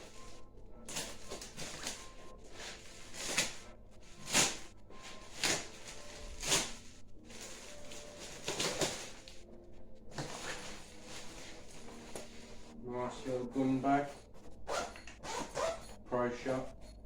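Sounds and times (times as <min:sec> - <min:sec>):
packaging rustling and scraping: 0:00.0 - 0:16.0.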